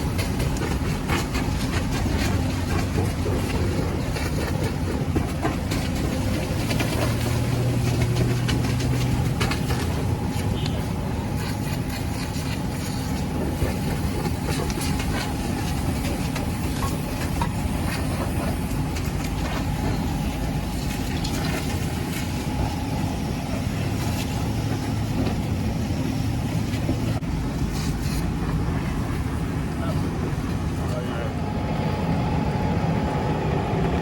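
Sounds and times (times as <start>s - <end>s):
diesel engine rumbling: 0.0s - 34.0s.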